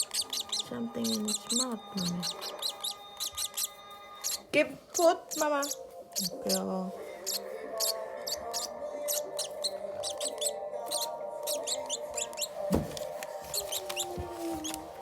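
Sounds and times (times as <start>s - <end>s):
chicks high-pitched begging squeaks: 0.0s - 15.0s.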